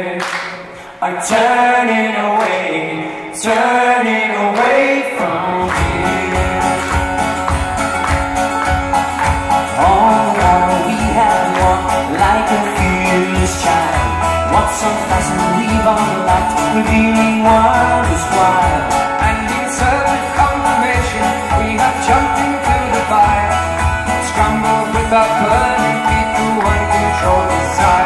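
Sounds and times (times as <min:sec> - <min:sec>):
man singing: 0:00.0 - 0:08.0, 0:08.7 - 0:28.0
acoustic guitars strummed: 0:04.6 - 0:28.0.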